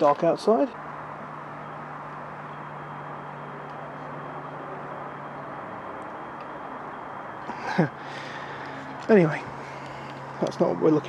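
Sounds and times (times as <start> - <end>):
distant traffic: 0.0 - 11.0
low steady hum: 0.0 - 11.0.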